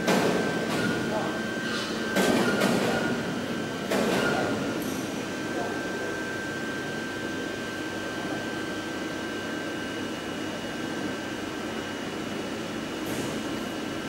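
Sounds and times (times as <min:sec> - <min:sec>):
industrial machinery hum and hiss: 0:00.0 - 0:14.0.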